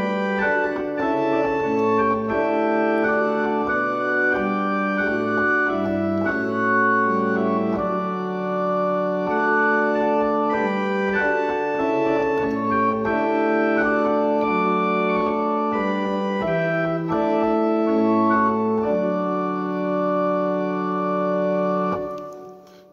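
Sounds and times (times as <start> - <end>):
church organ playing a hymn: 0.0 - 22.9.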